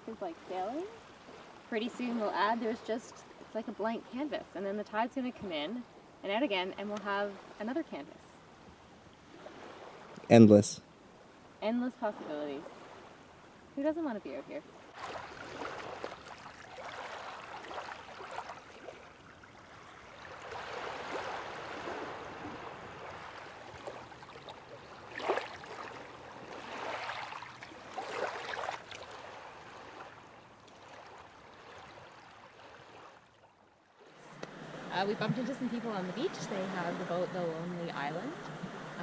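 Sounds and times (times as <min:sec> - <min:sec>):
small waves lapping on beach: 0:00.0 - 0:10.2, 0:11.0 - 0:39.0.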